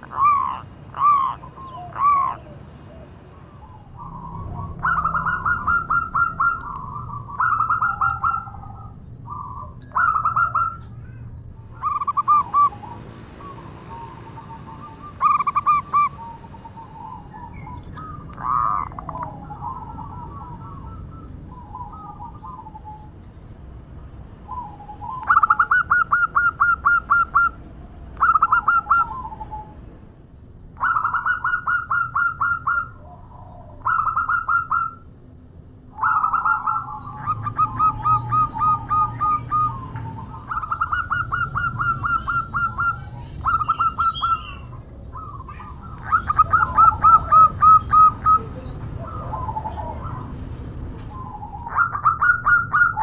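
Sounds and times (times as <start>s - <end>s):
dove cooing: 0.0s - 11.2s, 11.8s - 23.1s, 24.5s - 27.6s, 28.2s - 29.9s, 30.8s - 35.1s, 35.9s - 53.0s.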